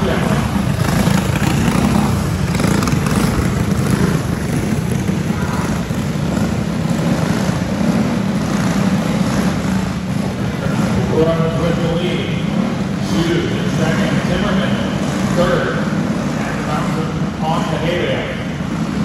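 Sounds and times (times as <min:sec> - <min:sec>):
racing kart engines droning: 0:00.0 - 0:19.0.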